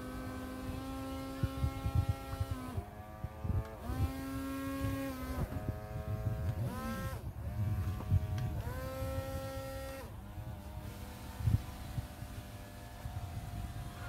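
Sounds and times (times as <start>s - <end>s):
small electric motor whirring: 0.0s - 14.0s.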